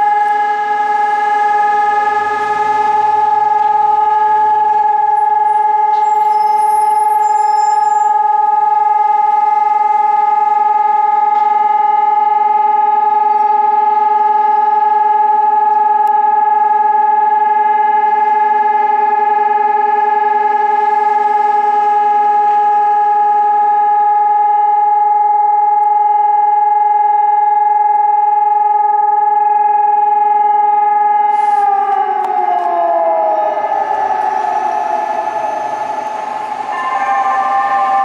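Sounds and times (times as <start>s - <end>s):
warning siren steady tone: 0.0s - 38.0s.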